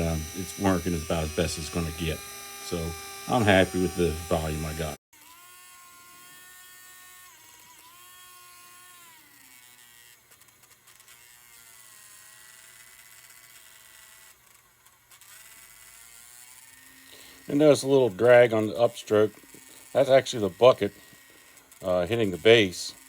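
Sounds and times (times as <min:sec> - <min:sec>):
small electric motor whine: 0:00.0 - 0:23.0.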